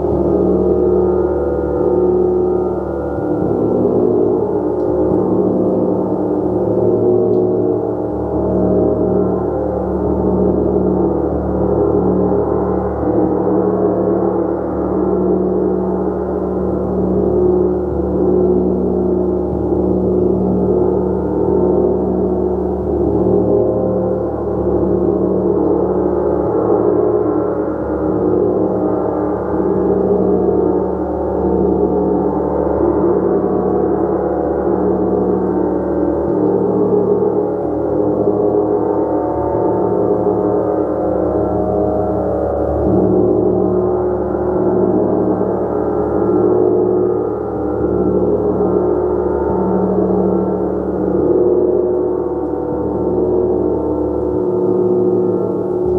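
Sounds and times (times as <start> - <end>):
gong played continuously: 0.0 - 55.9.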